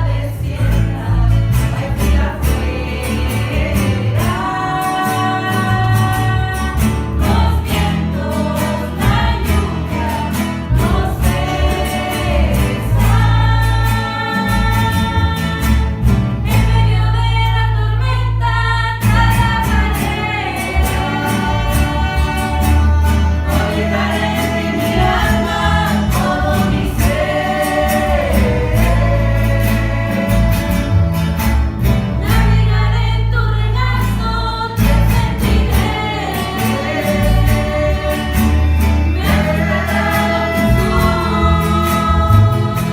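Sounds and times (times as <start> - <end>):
bass line: 0.0 - 42.9
group of voices singing: 0.0 - 42.9.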